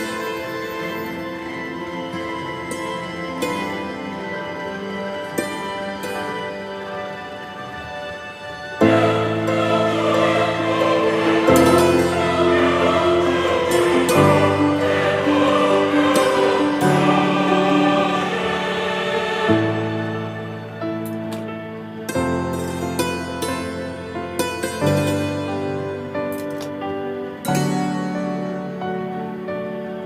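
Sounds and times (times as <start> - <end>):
instrumental music with sustained tones: 0.0 - 30.0.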